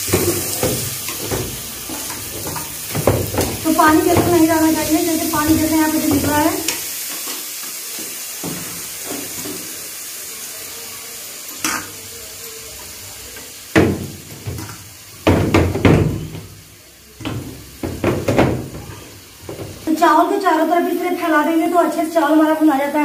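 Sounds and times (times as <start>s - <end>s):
ghee sizzling: 0.0s - 23.0s.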